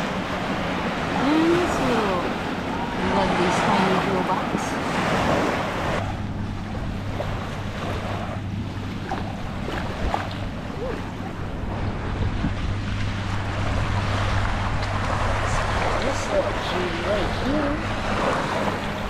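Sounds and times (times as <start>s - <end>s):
motorboat engine humming: 0.0s - 19.0s
surf: 0.0s - 19.0s
wind buffeting microphone: 0.0s - 19.0s.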